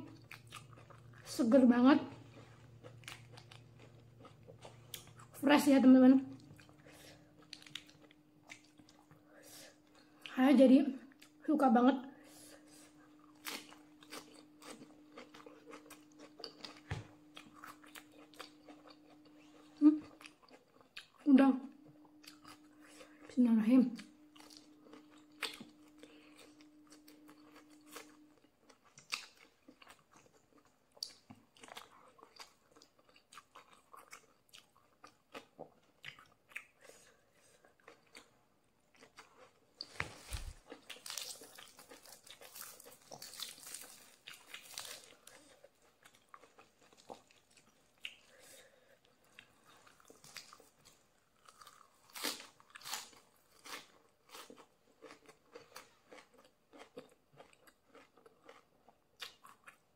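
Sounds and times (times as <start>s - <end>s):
chewing shrimp: 0.0s - 1.3s, 2.1s - 5.4s, 6.4s - 9.2s, 12.9s - 23.3s, 24.0s - 59.9s.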